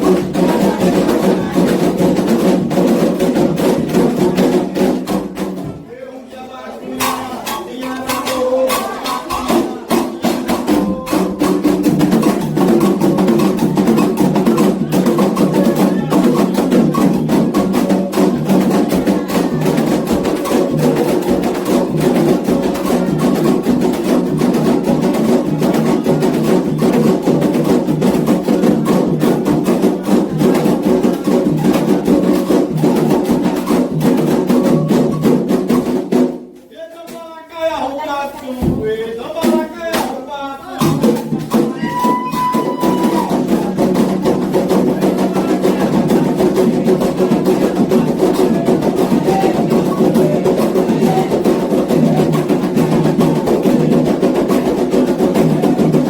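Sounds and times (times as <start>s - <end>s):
hand drums playing fast rhythm: 0.0s - 5.8s, 6.9s - 36.6s, 38.3s - 56.0s
chorus of voices: 0.0s - 35.3s, 37.1s - 56.0s.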